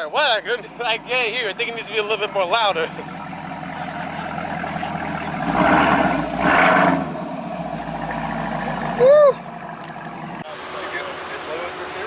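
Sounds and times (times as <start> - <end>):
car exhaust idling: 0.0 - 12.0
car engine revving: 0.4 - 12.0.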